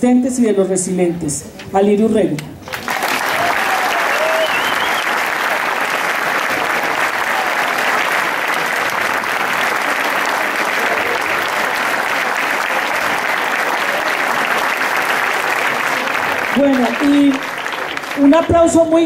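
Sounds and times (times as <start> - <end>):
large audience applauding: 2.7 - 19.0.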